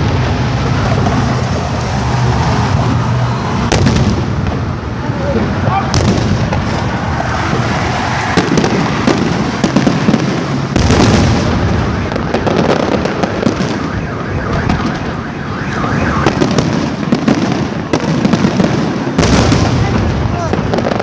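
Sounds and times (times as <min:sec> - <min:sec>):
fireworks crackling and banging: 0:00.0 - 0:21.0.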